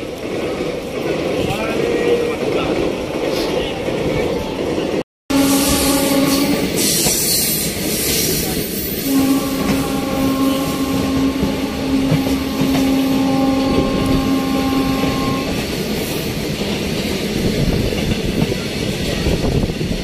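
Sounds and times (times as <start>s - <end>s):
train wheels rumbling and rattling: 0.0s - 20.0s.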